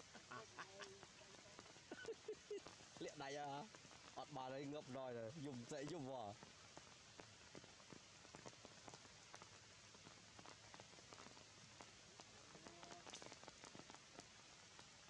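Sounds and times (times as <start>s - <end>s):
drops ticking on leaves: 0.0s - 15.0s
light rain on foliage: 0.0s - 15.0s.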